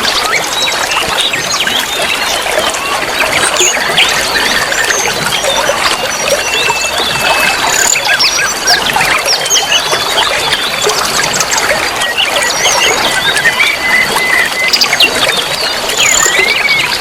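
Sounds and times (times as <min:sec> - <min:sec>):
small birds chirping chorus: 0:00.0 - 0:17.0
trickling running water: 0:00.0 - 0:17.0.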